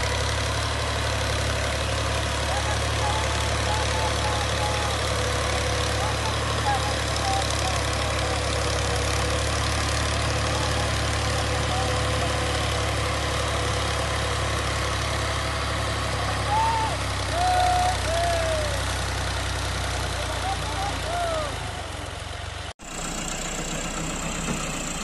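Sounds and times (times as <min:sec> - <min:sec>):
farm machinery engine idling: 0:00.0 - 0:25.0.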